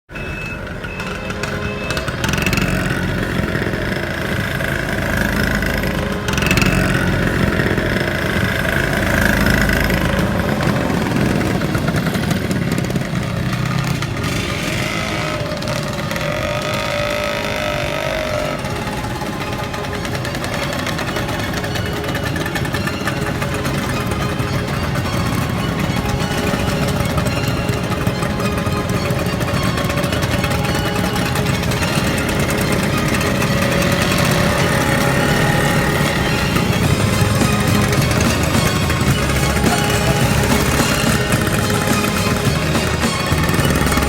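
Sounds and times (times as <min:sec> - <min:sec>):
motorbike engines running: 0:00.0 - 0:44.0.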